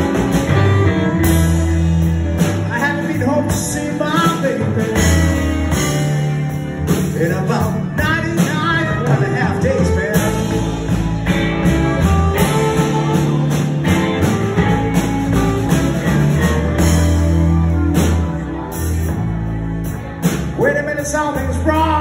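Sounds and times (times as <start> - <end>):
electric guitar lead line: 0.0 - 22.0
live blues band: 0.0 - 22.0.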